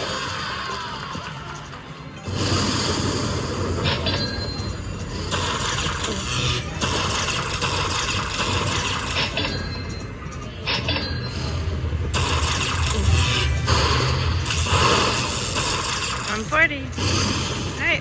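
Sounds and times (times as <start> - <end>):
slot machine sound effects: 0.0 - 17.3
casino background noise: 0.0 - 18.0.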